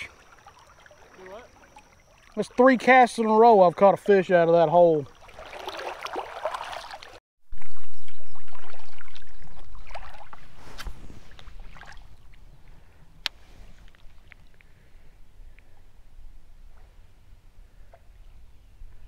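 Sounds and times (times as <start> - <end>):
river water rippling: 0.0 - 19.0.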